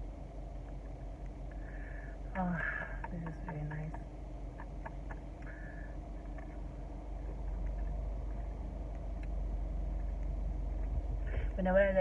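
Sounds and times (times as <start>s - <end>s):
vehicle rumble inside car: 0.0s - 12.0s.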